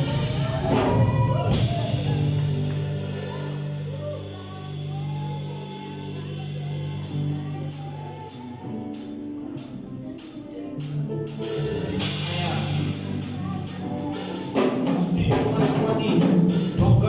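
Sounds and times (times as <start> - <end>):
percussion beat: 0.0 - 6.5, 9.6 - 17.0
keyboard and bass chords: 0.0 - 17.0
people singing: 0.0 - 17.0.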